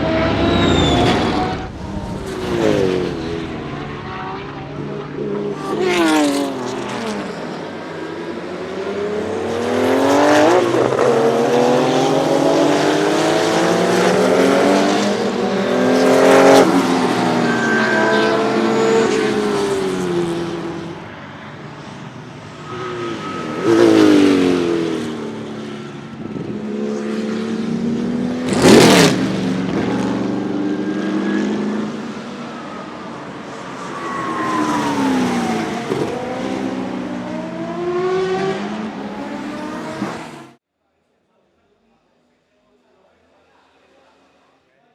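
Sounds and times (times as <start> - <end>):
racing cars passing at speed: 0.0 - 40.6.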